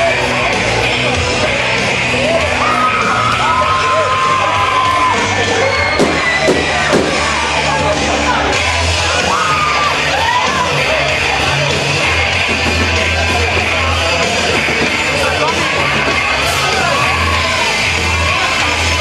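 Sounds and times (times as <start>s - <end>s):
crowd yelling and whooping: 0.0s - 19.0s
loud dance-band music: 0.0s - 19.0s.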